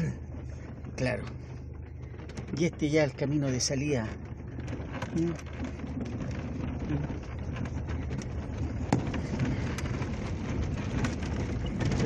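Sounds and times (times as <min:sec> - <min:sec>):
engine and tyres rumbling: 0:00.0 - 0:12.0
small clicks and rattles: 0:00.0 - 0:12.0.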